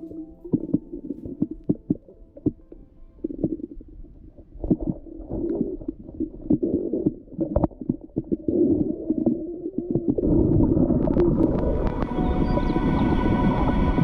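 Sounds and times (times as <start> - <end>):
underwater rumbling water: 0.0 - 14.0.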